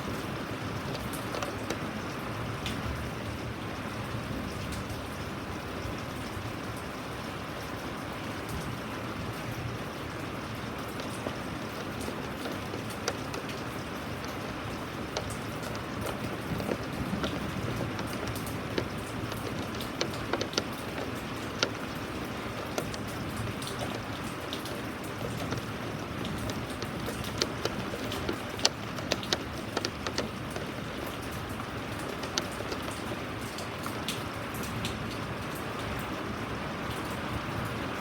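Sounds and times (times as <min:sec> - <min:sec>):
rain falling: 0:00.0 - 0:38.0
raindrops ticking on surface: 0:00.0 - 0:38.0.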